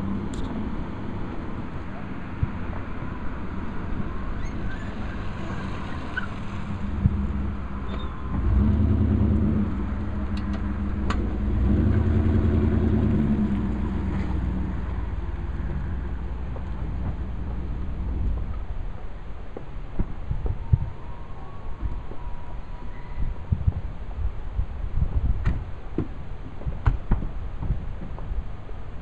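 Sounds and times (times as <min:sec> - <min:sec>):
outdoor background noise: 0:00.0 - 0:29.0.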